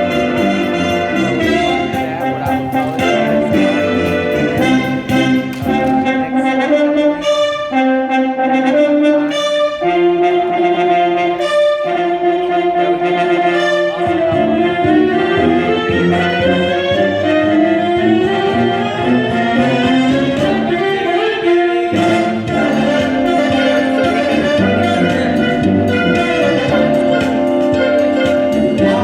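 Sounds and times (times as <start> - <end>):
brass music with long notes: 0.0 - 29.0.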